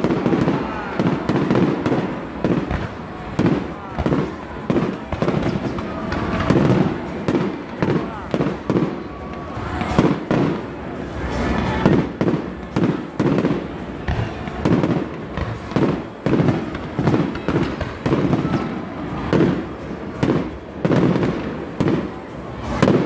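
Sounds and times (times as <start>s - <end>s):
fireworks bursting with sharp bangs: 0.0s - 23.0s
fireworks crackle: 0.0s - 23.0s.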